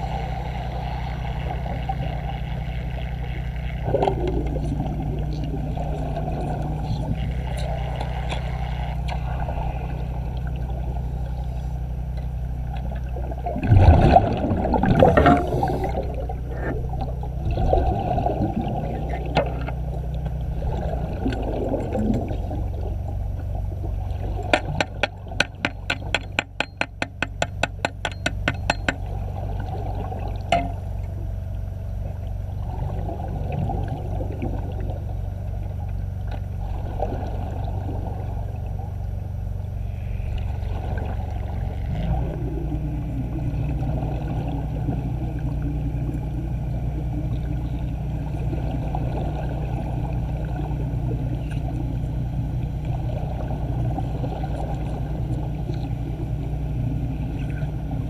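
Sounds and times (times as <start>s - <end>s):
low underwater hum: 0.0s - 58.0s.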